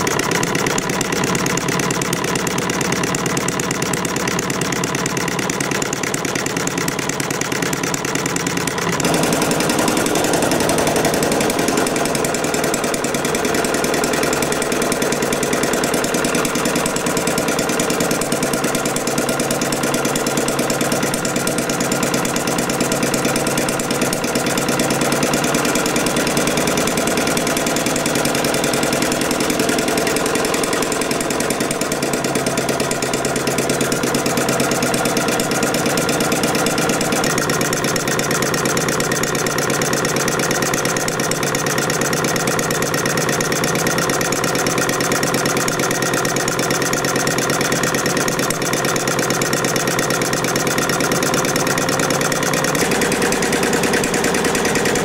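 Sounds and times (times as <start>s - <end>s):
small gas engine running: 0.0s - 55.0s
valve clatter: 0.0s - 55.0s.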